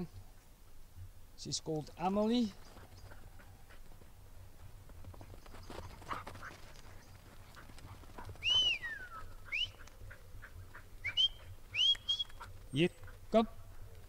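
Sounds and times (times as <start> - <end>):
hooves and paws pattering on ground: 1.4 - 14.0.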